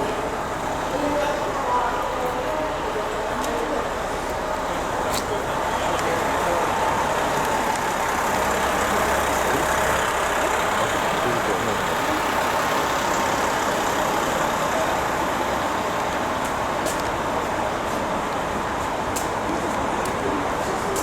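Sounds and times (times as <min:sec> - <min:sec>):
train engine humming: 0:00.0 - 0:21.0.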